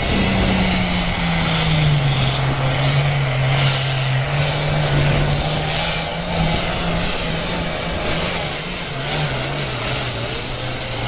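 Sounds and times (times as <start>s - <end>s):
diesel tractor engine under load: 0.0s - 11.0s.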